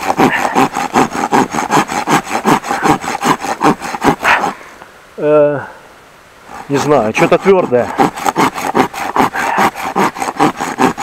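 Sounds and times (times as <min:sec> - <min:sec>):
machete sawing a dry branch: 0:00.0 - 0:04.7, 0:06.4 - 0:11.0.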